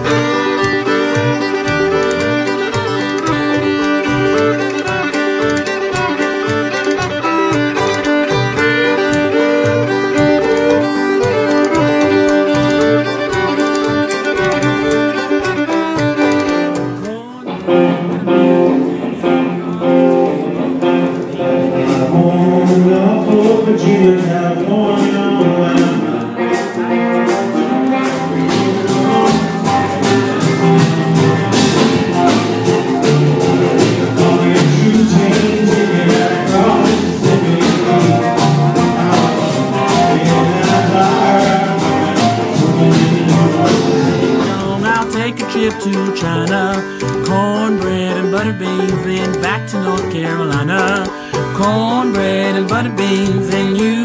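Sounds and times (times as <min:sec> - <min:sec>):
acoustic string-band music: 0:00.0 - 0:54.0
clicking beat: 0:00.0 - 0:54.0.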